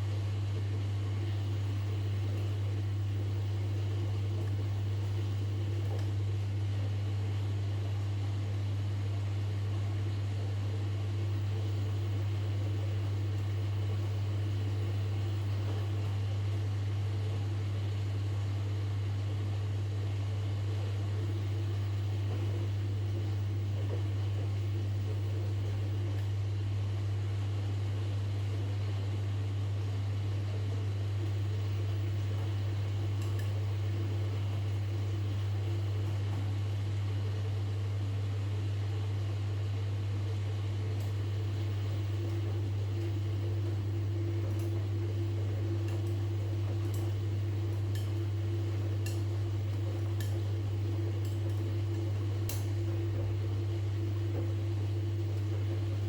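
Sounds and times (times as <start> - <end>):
washing machine humming: 0.0 - 56.0.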